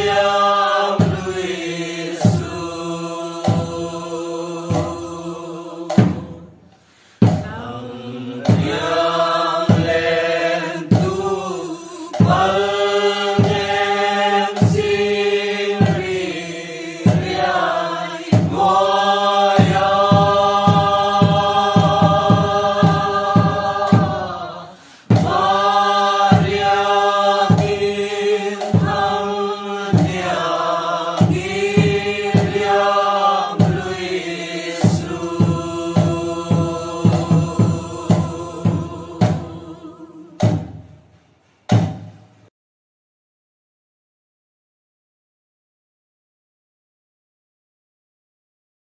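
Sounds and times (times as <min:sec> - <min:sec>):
voices singing and chanting: 0:00.0 - 0:40.6
percussion beat: 0:00.0 - 0:41.1, 0:41.7 - 0:42.3.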